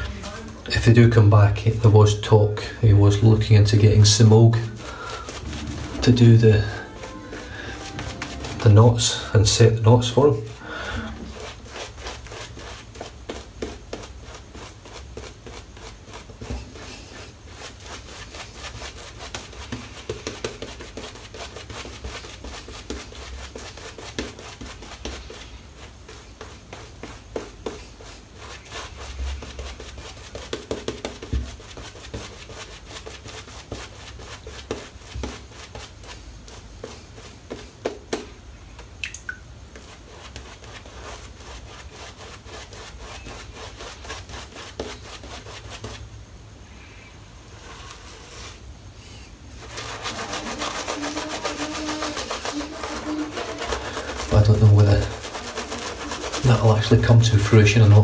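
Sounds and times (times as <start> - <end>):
shaving brush scrubbing lather: 0.0 - 38.9, 39.7 - 46.1, 49.5 - 58.0.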